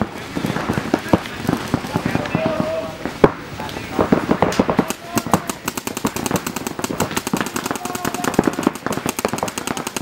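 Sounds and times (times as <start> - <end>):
paintball guns firing rapidly: 0.0 - 2.9, 4.0 - 10.0.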